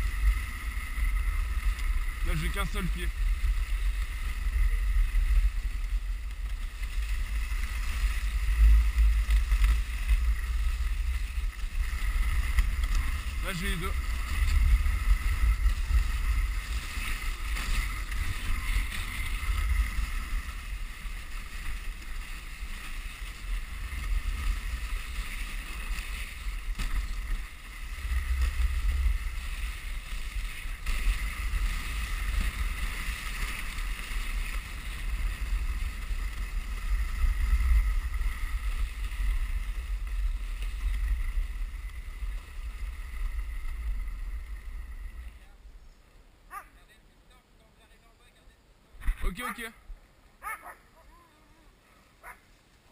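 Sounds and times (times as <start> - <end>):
sled runners scraping on snow: 0.0 - 46.9, 49.0 - 52.9.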